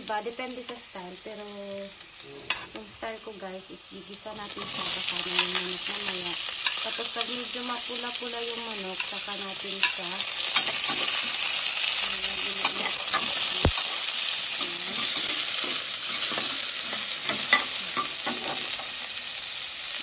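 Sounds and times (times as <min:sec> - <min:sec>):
chicken sizzling in a pot: 0:00.0 - 0:20.0.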